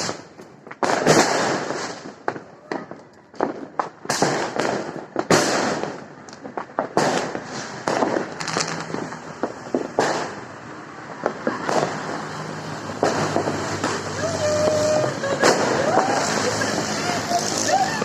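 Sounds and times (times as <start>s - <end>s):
fireworks bangs and booms: 0.0s - 18.0s
fireworks crackle: 0.0s - 18.0s.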